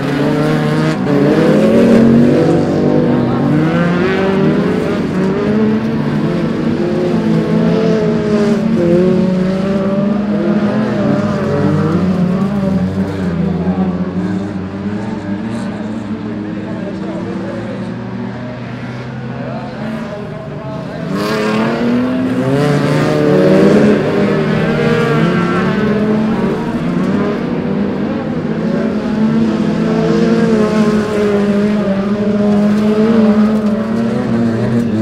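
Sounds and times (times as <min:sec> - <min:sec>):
racing car engines revving: 0:00.0 - 0:35.0.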